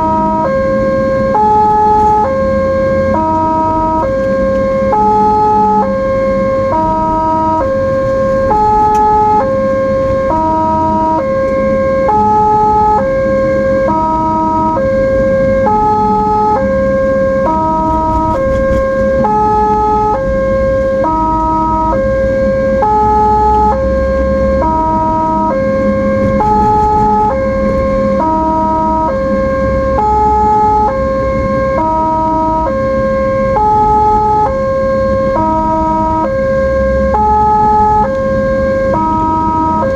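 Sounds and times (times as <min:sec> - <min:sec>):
ambulance siren: 0:00.0 - 0:39.9
vehicle and road rumble: 0:00.0 - 0:39.9.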